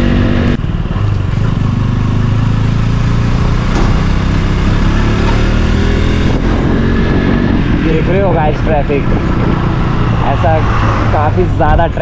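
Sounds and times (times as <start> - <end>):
motorcycle engine droning: 0.0 - 12.0
road noise: 0.0 - 12.0.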